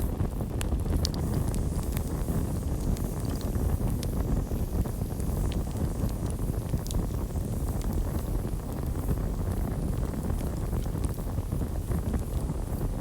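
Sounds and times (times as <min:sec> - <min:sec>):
wood crackling and popping: 0:00.0 - 0:12.8
low rumble of flames: 0:00.0 - 0:13.0.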